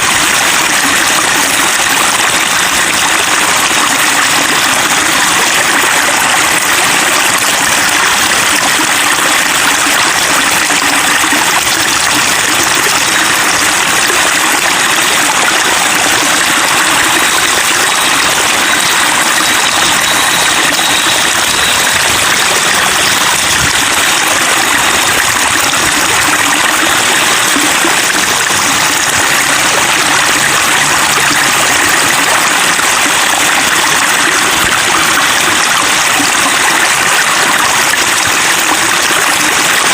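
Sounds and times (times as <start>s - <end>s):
water babbling and splashing: 0.0s - 39.9s.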